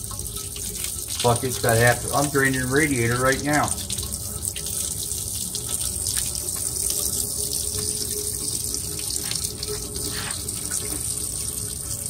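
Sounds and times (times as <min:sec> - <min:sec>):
liquid pouring into bucket: 0:00.0 - 0:12.0.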